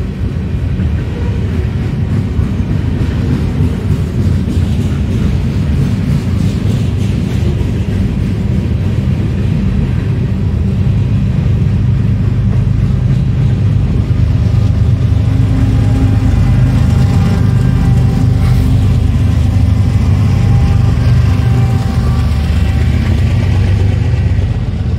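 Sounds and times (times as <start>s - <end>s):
diesel locomotive engine drone: 0.0s - 24.9s
steel train wheels rumbling on rail: 0.0s - 24.9s.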